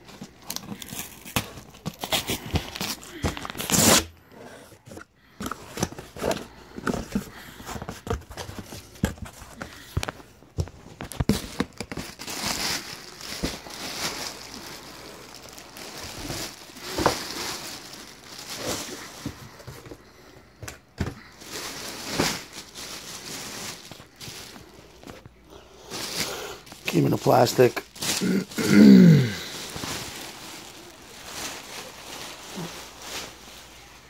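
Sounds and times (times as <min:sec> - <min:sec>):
plastic packaging crinkling: 0:00.0 - 0:04.1, 0:04.9 - 0:34.0.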